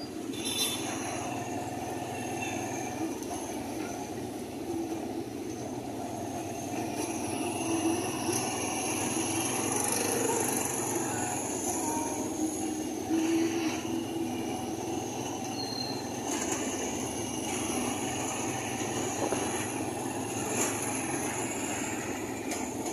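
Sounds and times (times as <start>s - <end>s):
high-pitched whines: 0.0s - 22.9s
motorcycle engine: 0.0s - 22.9s.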